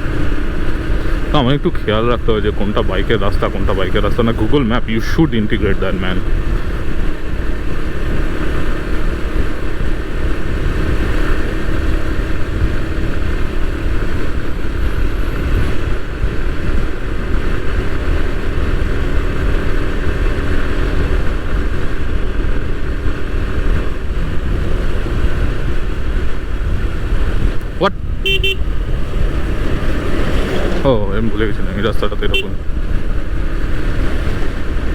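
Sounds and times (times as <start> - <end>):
motorcycle engine cruising: 0.0 - 34.9
wind rush on microphone: 0.0 - 34.9.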